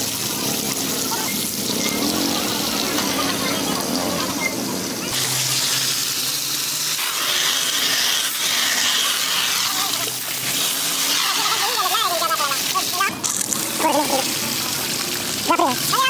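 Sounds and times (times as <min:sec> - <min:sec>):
hissing water spray: 0:00.0 - 0:16.0
hose water splashing on metal: 0:00.0 - 0:16.0.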